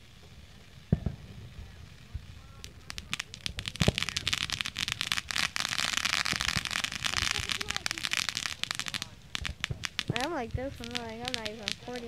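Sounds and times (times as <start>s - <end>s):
firework crack: 0.0s - 12.0s
firework crackling: 0.0s - 12.0s.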